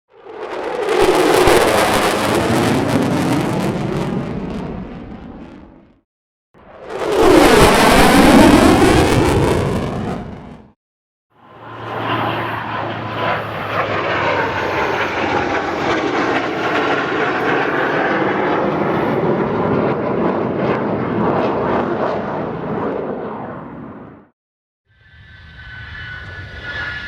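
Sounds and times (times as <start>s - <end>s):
fighter jet engine: 0.1s - 6.0s, 6.6s - 10.8s, 11.4s - 24.3s, 25.0s - 27.0s.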